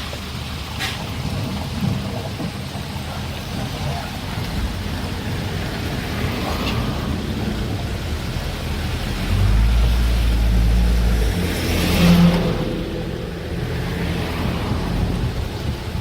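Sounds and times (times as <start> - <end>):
construction machinery diesel rumble: 0.0 - 16.0.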